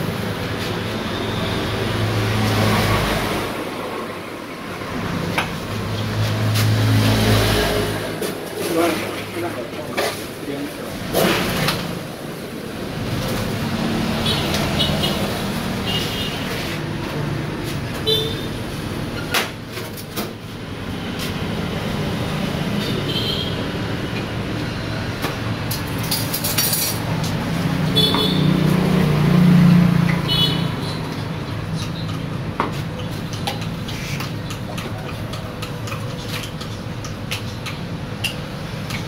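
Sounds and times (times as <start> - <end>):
street traffic: 0.0 - 39.0.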